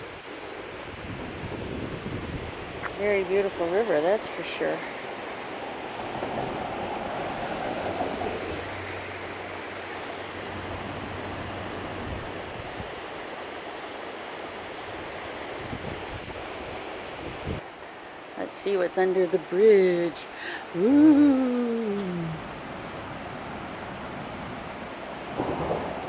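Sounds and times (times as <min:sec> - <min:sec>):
river rushing over rapids: 0:00.0 - 0:26.0.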